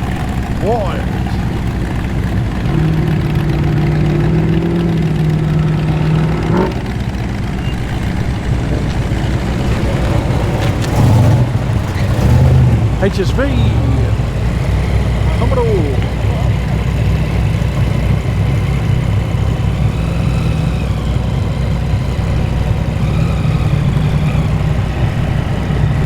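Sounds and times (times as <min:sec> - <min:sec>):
muscle car engines rumbling: 0:00.0 - 0:26.0.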